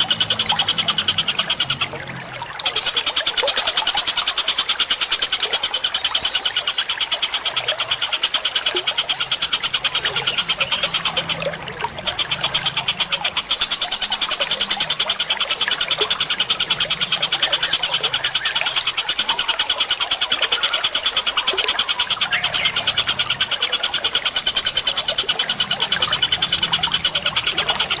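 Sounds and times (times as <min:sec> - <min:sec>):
faint flowing water: 0:00.0 - 0:28.0
rapid sharp bird chirps: 0:00.0 - 0:28.0.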